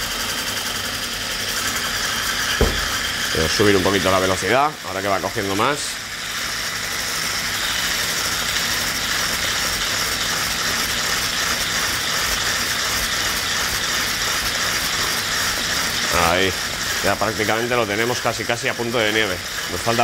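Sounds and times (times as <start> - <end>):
electric hand blender whisking: 0.0 - 20.0.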